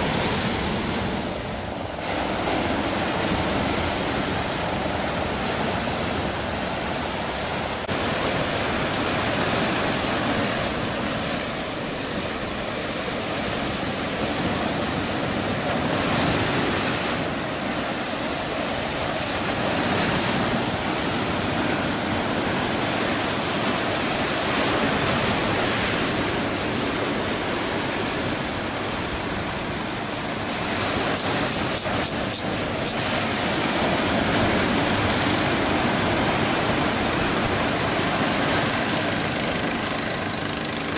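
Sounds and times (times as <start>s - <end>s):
surf washing on rocky shore: 0.0s - 40.9s.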